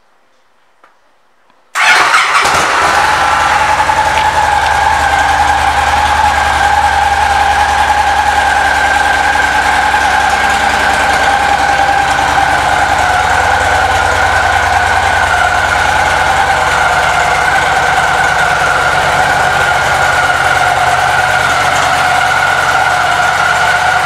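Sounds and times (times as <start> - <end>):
motorcycle engine idling: 1.8 - 24.0
steady whine: 2.7 - 24.0.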